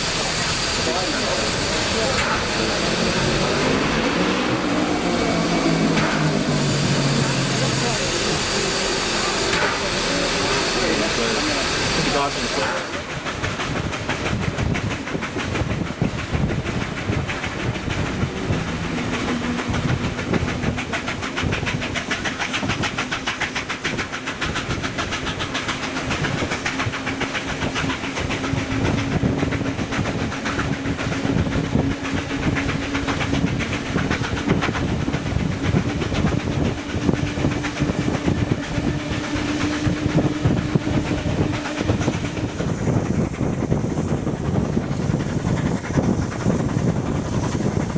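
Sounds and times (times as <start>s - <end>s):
train rolling on rails: 0.0s - 47.9s.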